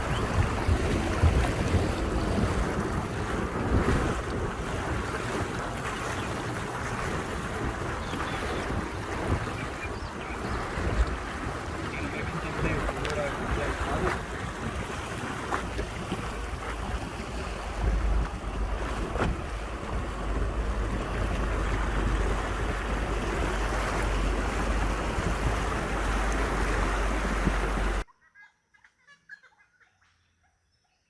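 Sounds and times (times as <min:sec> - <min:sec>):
vehicle driving off-road: 0:00.0 - 0:28.0
wind buffeting microphone: 0:00.0 - 0:28.0.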